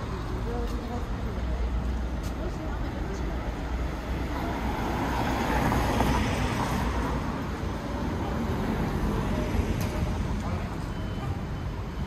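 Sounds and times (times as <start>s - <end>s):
city street hum: 0.0s - 12.0s.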